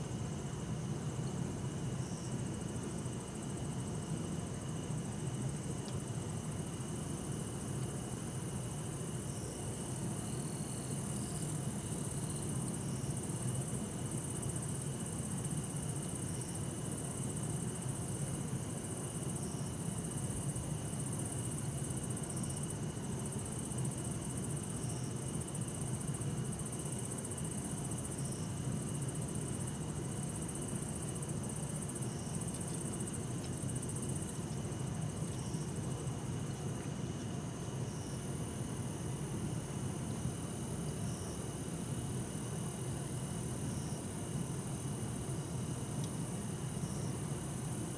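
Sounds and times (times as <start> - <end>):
crickets trilling: 0.0 - 47.9
insect chirps: 0.0 - 47.9.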